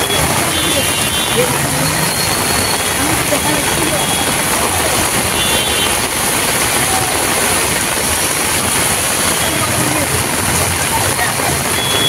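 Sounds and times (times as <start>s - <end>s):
car engines running: 0.0s - 12.0s
tyres pushing through water: 0.0s - 12.0s.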